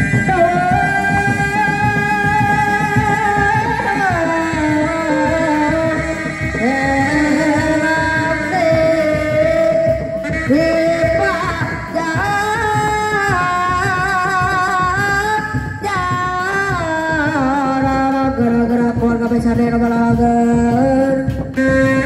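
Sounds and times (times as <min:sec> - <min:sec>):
drums beating fast rhythm: 0:00.0 - 0:22.0.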